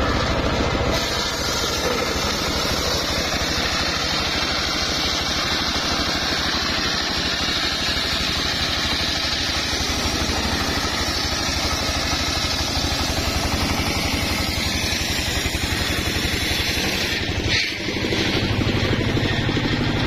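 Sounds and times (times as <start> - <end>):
saw blade cutting wood: 0.0 - 20.0
sawmill engine running: 0.0 - 20.0.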